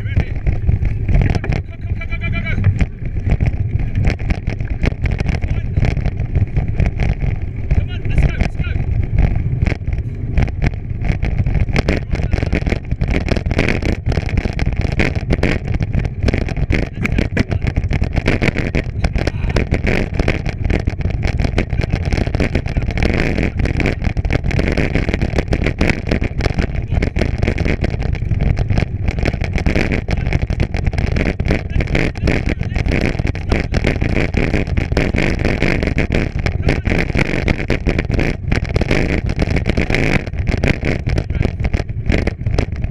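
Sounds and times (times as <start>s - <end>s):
bicycle tyres rolling on trail: 0.0s - 42.9s
wind buffeting microphone: 0.0s - 42.9s.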